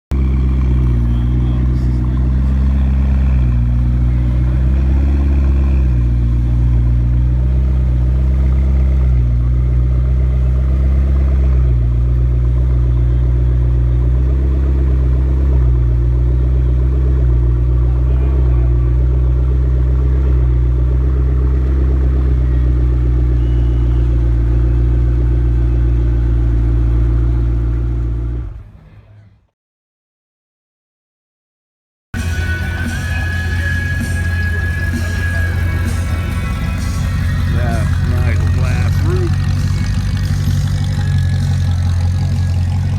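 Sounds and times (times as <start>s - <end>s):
car engine rumbling: 0.0s - 29.4s, 32.2s - 42.9s.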